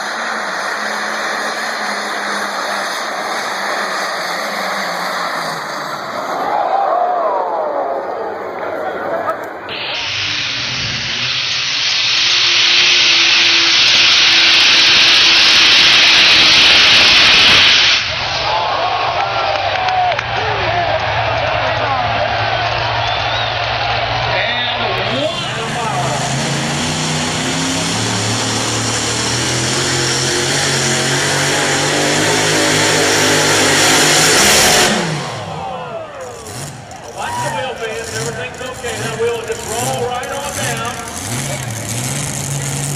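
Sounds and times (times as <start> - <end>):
engine roaring at full power: 0.0 - 42.9.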